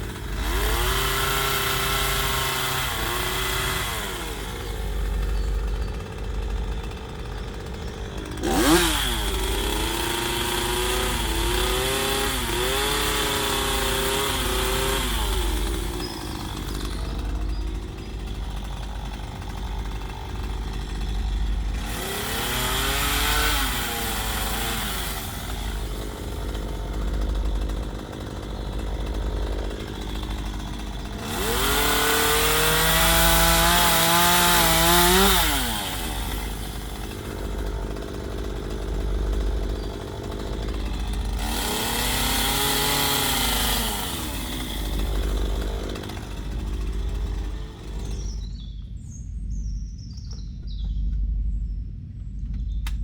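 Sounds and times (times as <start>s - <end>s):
chainsaw cutting wood: 0.0s - 49.0s
birds chirping: 1.0s - 23.5s, 25.7s - 53.0s.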